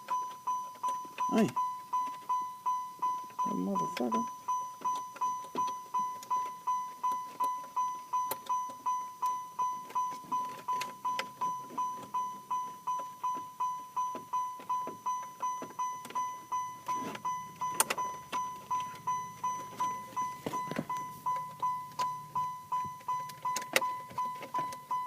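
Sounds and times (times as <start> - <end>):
car warning chime dinging: 0.0 - 25.0.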